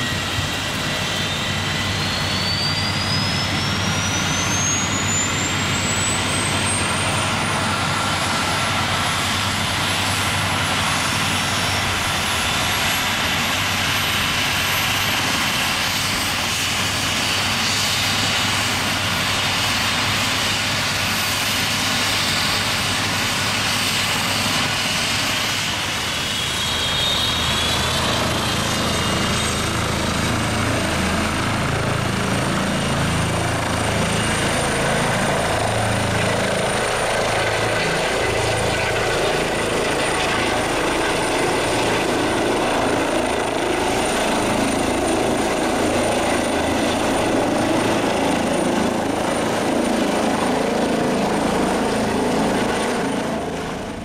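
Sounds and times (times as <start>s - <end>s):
helicopter rotor beat: 0.0s - 54.0s
helicopter turbine whine: 0.0s - 54.0s.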